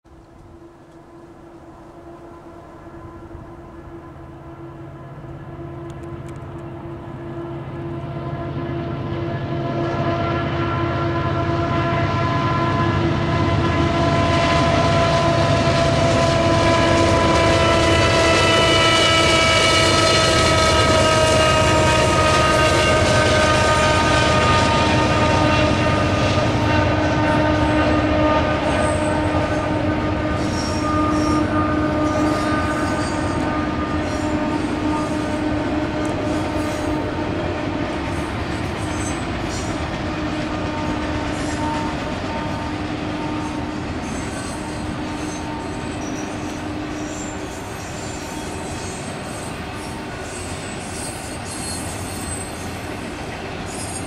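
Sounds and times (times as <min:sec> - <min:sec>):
diesel locomotive engines howling: 0:00.1 - 0:54.0
train wheels rumbling: 0:00.1 - 0:54.0.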